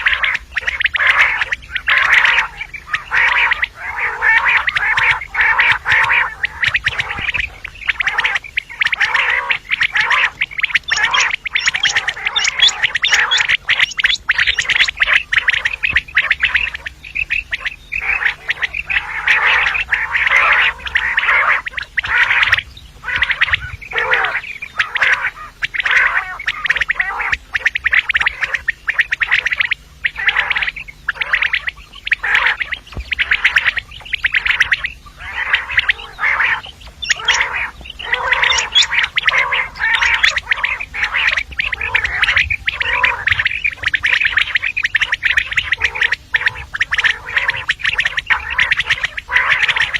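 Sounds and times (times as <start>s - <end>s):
quail calls: 0.0s - 49.9s.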